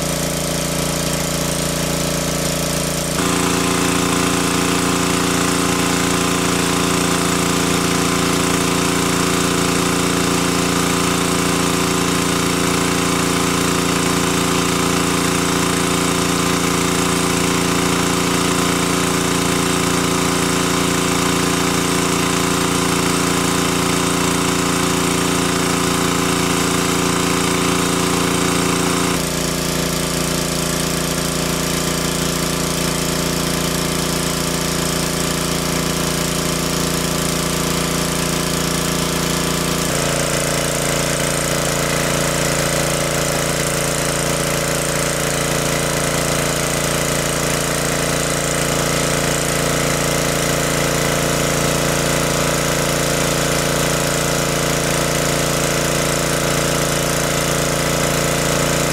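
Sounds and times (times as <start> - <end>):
engine-driven water pump running: 0.0 - 58.9.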